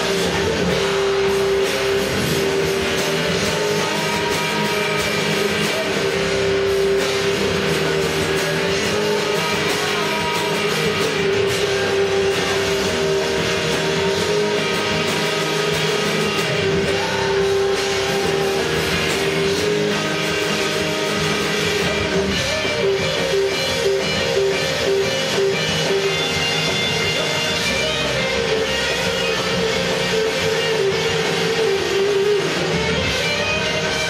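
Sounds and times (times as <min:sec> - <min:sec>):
electric guitar playing: 0:00.0 - 0:34.0
heavy rock recording: 0:00.0 - 0:34.0.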